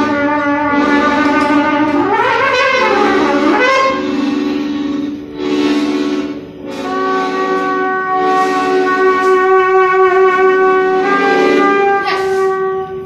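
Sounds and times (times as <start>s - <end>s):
accordion: 0.0s - 13.0s
trumpet: 0.0s - 13.0s.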